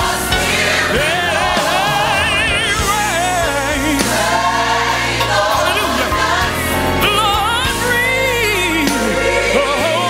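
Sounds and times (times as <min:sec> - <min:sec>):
held bass notes: 0:00.0 - 0:10.0.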